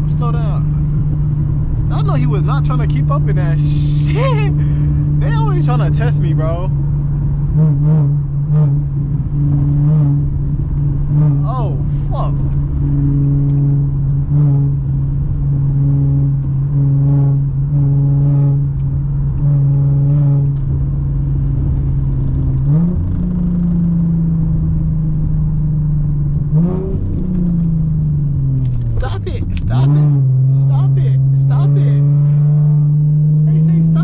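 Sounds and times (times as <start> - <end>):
car engine droning and revving: 0.0 - 34.0.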